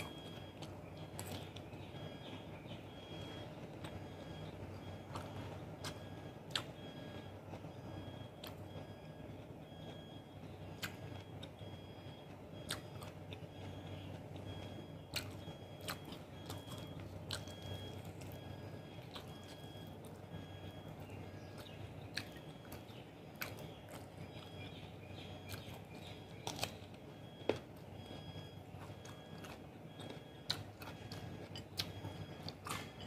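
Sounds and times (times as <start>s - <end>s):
close chewing: 0.0s - 7.3s, 10.8s - 33.0s.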